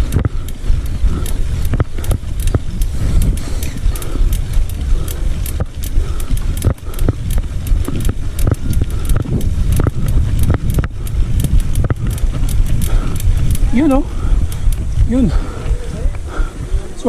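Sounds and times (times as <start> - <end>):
bike rattling clicks and knocks: 0.0 - 16.7
wind rumbling on microphone: 0.0 - 17.0.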